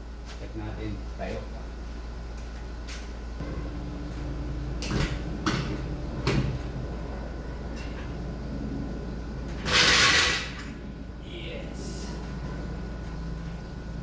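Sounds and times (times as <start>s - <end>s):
low hum: 1.5s - 14.0s.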